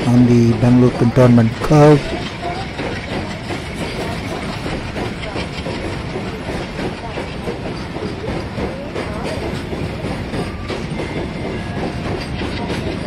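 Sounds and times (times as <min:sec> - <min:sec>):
diesel locomotive engine chugging: 0:00.0 - 0:13.0
train wagons clattering: 0:00.0 - 0:13.0.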